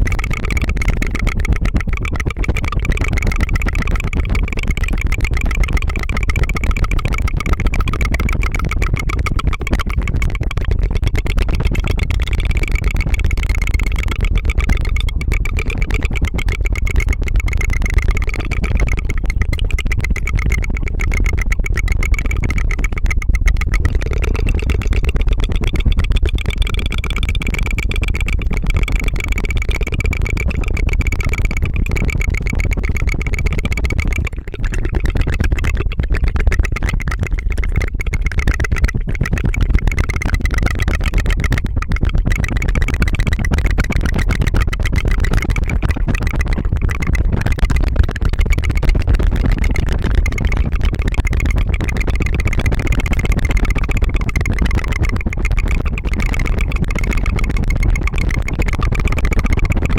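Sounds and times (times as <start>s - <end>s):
tongue fluttering trill: 0.0s - 59.9s.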